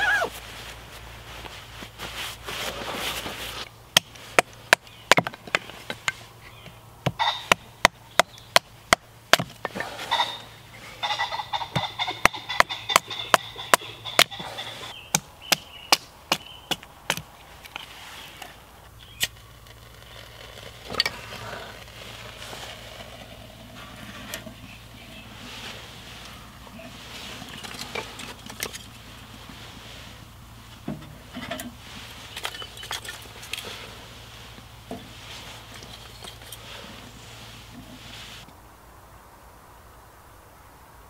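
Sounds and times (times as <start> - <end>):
handling and rustling: 0.0 - 15.6, 16.3 - 38.6.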